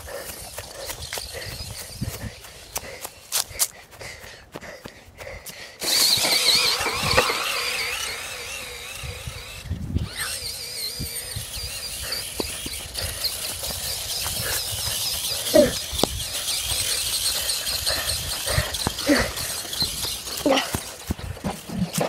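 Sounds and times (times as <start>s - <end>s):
toy car motor whining: 0.0s - 3.4s, 5.8s - 22.0s.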